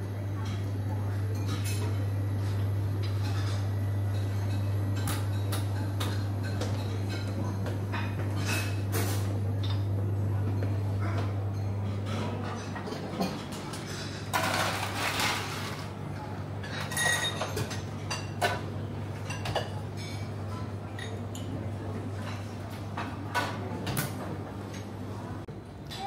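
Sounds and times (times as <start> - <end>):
steady low hum: 0.0 - 21.0
crockery and cutlery clinking: 1.3 - 24.9.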